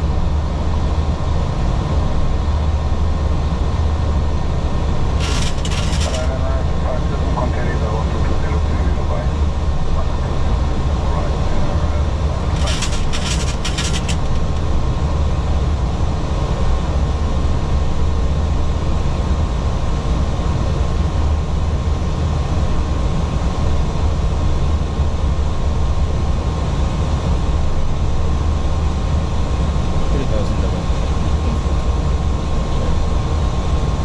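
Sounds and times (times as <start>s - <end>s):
deep rumble of airflow and engines: 0.0s - 34.0s.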